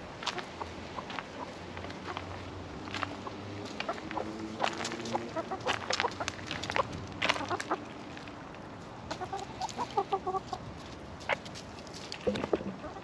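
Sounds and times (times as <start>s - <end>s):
hens clucking: 0.2s - 8.4s, 9.0s - 10.6s, 12.2s - 13.0s.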